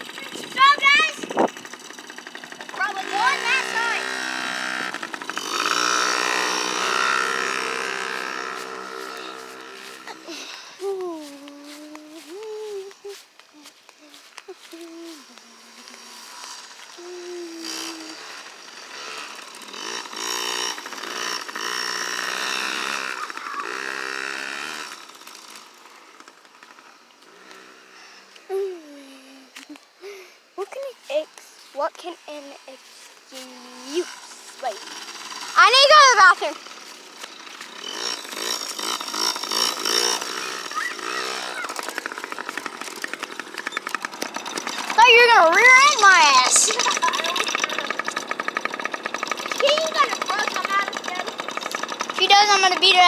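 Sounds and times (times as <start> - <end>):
dirt bike engine revving: 0.0 - 30.4, 31.0 - 53.0.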